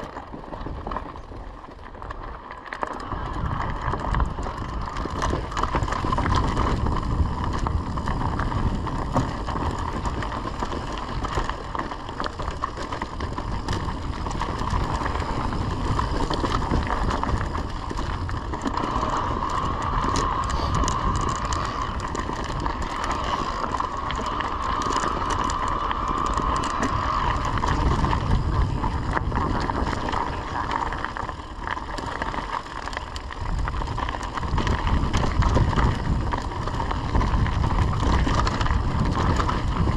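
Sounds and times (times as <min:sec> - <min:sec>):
bike parts rattling and clicking: 0:00.0 - 0:39.9
tyres crunching over gravel: 0:00.0 - 0:39.9
steady whine: 0:04.2 - 0:39.9.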